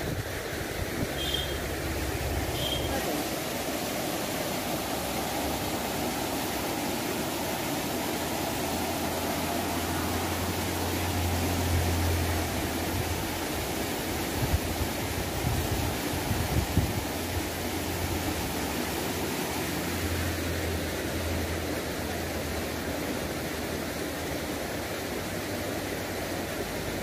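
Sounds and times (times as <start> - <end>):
river water rushing over weir: 0.0 - 27.0.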